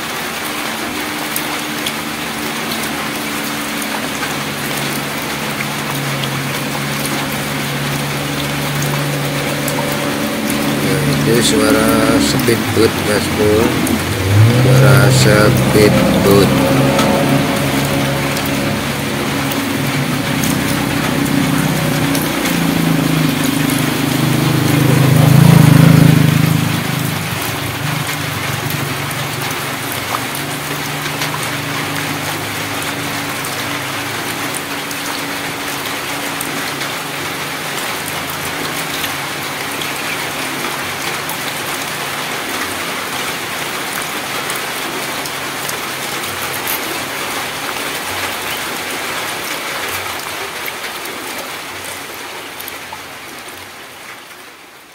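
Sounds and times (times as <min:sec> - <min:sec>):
light rain on puddles: 0:00.0 - 0:54.9
passing engine: 0:00.6 - 0:51.6.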